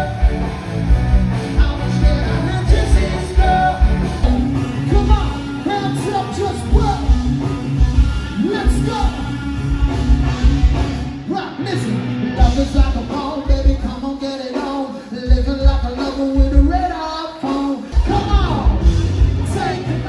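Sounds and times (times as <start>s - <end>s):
rock song with singer: 0.0s - 20.0s.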